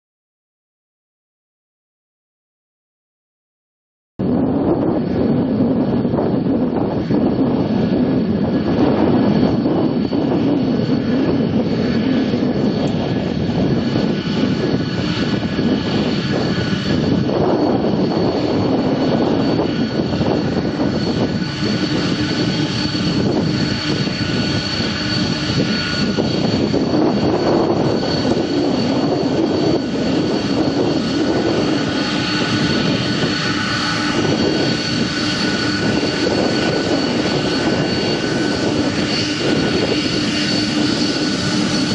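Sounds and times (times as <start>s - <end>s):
jet engines at takeoff power: 4.2s - 41.9s.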